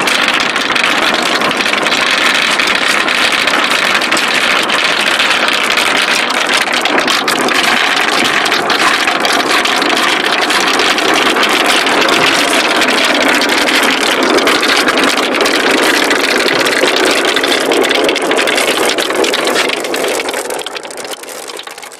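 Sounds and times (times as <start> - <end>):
marbles rattling down wooden slope: 0.0 - 21.9.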